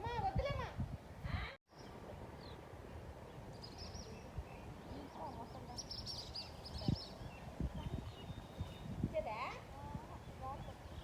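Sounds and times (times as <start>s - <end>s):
outdoor background noise: 0.0s - 11.0s
birds chirping high: 1.7s - 11.0s.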